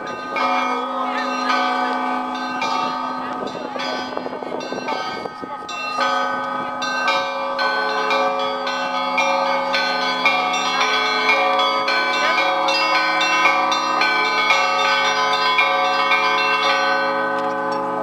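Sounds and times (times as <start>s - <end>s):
church bells pealing: 0.0s - 18.0s
large bells ringing: 0.0s - 18.0s.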